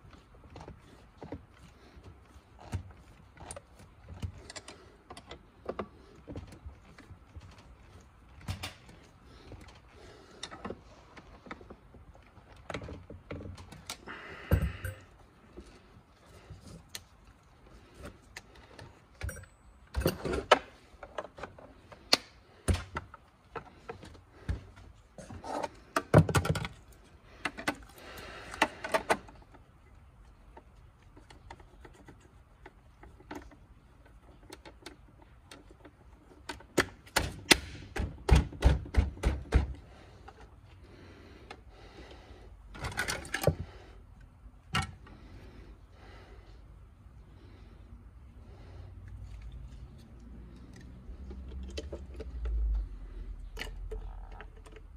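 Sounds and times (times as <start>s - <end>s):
plastic parts clicking and knocking: 0.0s - 15.8s, 16.4s - 41.7s, 42.7s - 45.3s, 49.3s - 54.9s.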